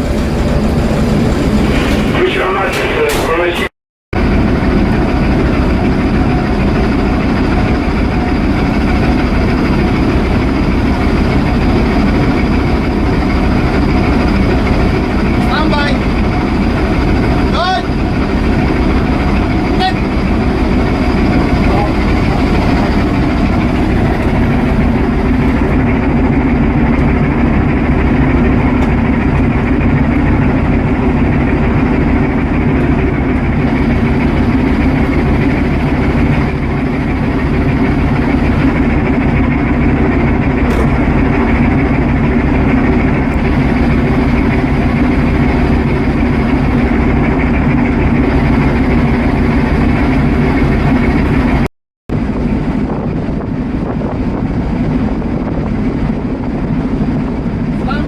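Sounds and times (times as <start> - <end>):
ship diesel engine drone: 0.0 - 58.0.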